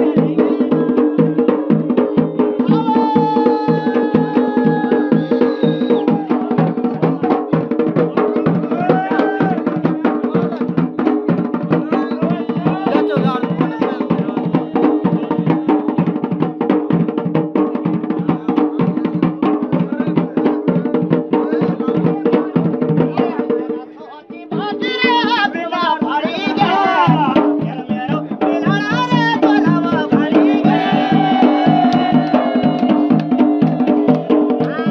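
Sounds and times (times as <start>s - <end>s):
barrel drum beaten fast: 0.0s - 34.9s.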